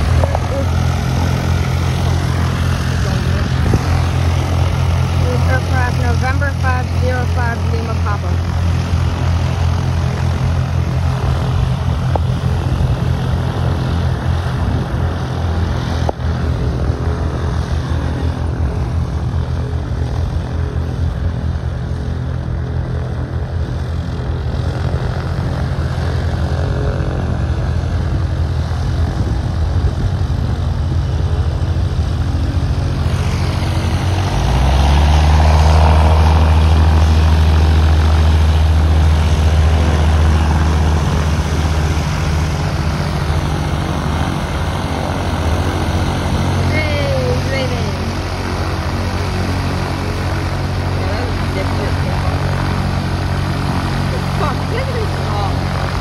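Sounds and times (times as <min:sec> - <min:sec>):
airplane propeller engine running: 0:00.0 - 0:56.0.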